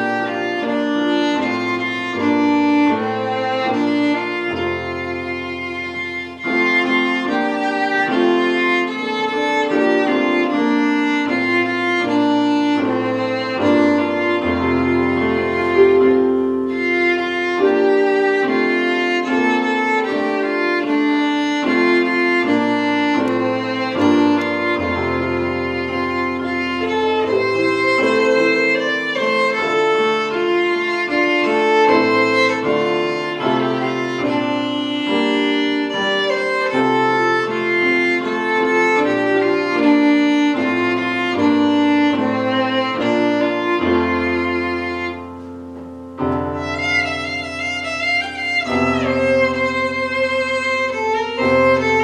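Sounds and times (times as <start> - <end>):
sustained keyboard chords: 0.0 - 52.0
violin melody with vibrato: 0.0 - 52.0.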